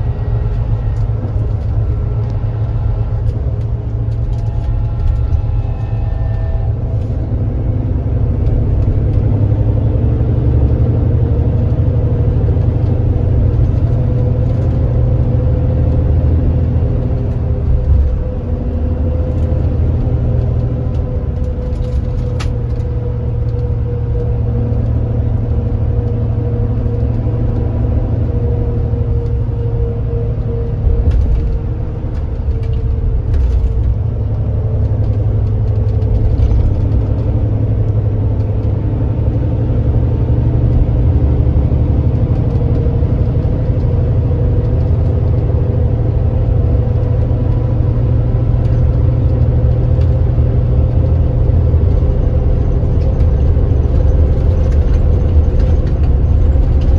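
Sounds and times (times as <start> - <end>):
coach engine droning: 0.0 - 56.9.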